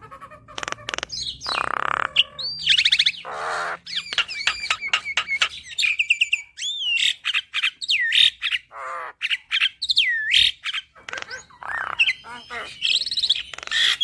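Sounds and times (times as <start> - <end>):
bird singing and chattering: 0.0 - 14.0
harsh rasping bird calls: 0.0 - 14.0.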